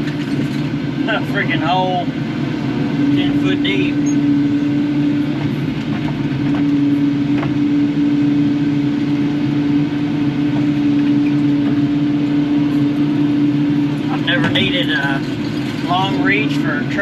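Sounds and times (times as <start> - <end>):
excavator diesel engine and hydraulics: 0.0 - 17.0.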